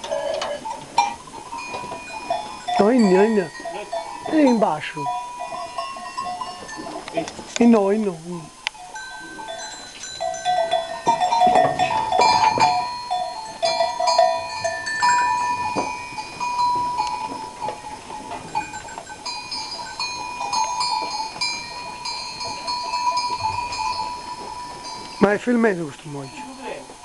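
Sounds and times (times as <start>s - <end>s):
goat bells clinking and ringing: 0.0s - 27.0s.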